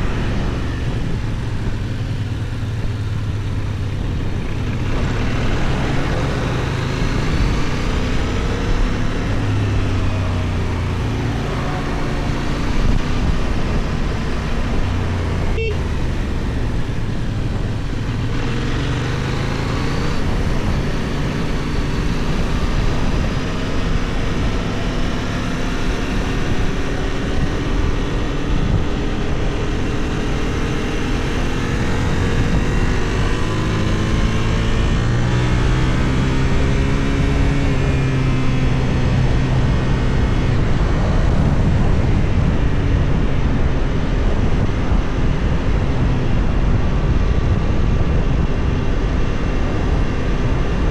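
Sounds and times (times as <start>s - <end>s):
motorcycle engine accelerating: 0.0s - 50.9s
wind noise on microphone: 0.0s - 50.9s.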